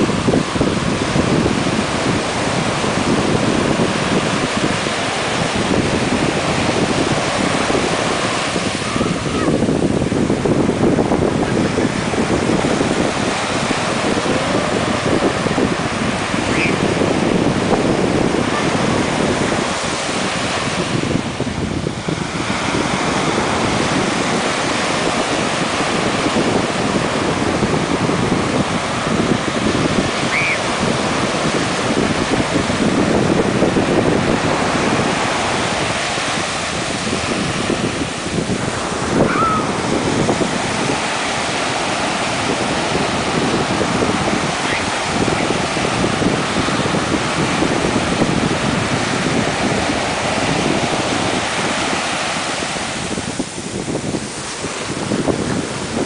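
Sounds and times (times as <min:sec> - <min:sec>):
ocean surf breaking: 0:00.0 - 0:56.0
wind buffeting microphone: 0:00.0 - 0:56.0.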